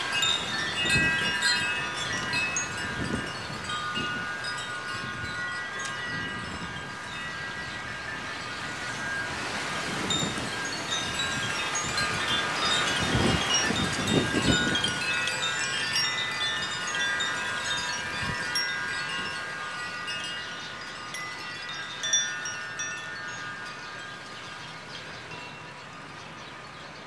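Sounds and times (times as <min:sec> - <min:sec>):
wind buffeting microphone: 0:00.0 - 0:26.6
bamboo wind chimes ringing: 0:00.0 - 0:27.0.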